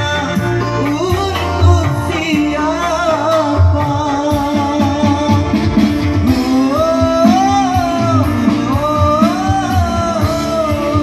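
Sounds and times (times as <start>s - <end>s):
keyboard drum and bass beat: 0.0s - 11.0s
man singing into microphone: 0.0s - 11.0s.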